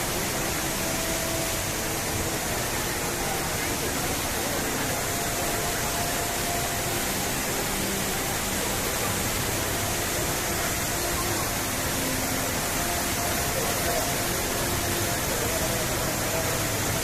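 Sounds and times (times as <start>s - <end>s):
faint musical tones: 0.0s - 17.0s
fountain water jets spraying: 0.0s - 17.0s.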